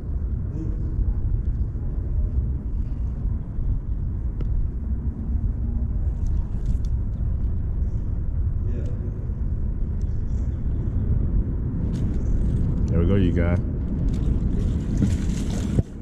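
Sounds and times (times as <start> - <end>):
traffic rumble on bridge: 0.0 - 16.0.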